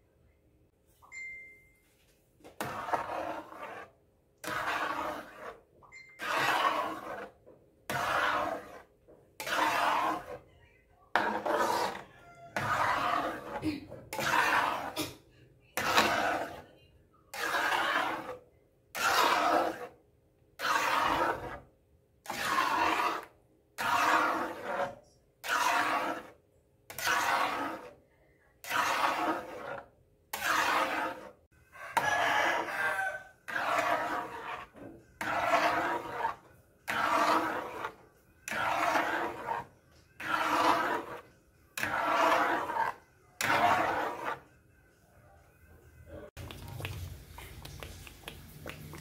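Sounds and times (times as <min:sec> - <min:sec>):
metal spoon scraping metal pan: 0:02.6 - 0:10.5, 0:11.1 - 0:20.0, 0:20.6 - 0:28.0, 0:28.6 - 0:44.5.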